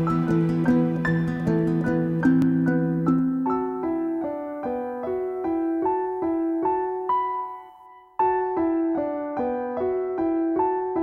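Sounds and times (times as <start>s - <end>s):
keyboard playing gentle notes: 0.0s - 11.0s.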